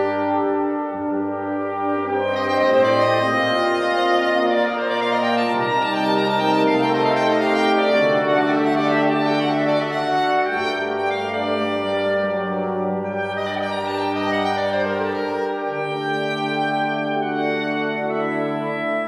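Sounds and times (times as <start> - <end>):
brass ensemble chords: 0.0 - 19.0
soprano saxophone melody: 0.0 - 19.0.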